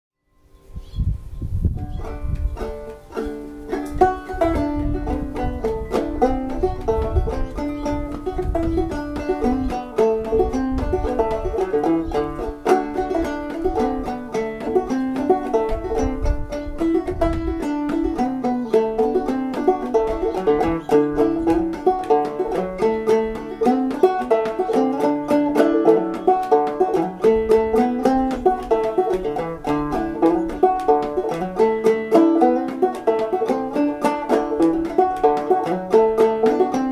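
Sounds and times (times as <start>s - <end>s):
banjo playing: 1.8s - 36.9s.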